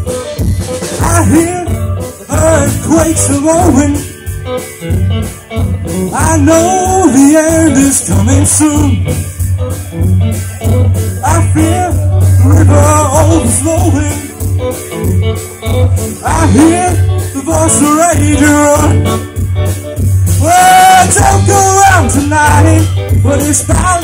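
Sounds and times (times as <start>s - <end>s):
person singing: 0.0s - 4.6s, 5.5s - 9.4s, 10.3s - 19.4s, 20.3s - 24.0s
live rock band playing: 0.0s - 24.0s.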